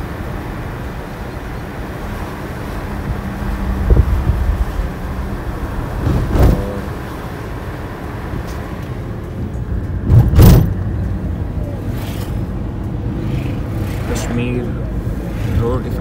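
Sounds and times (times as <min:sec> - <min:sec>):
car road and engine noise: 0:00.0 - 0:16.0
low rumbles: 0:00.0 - 0:16.0.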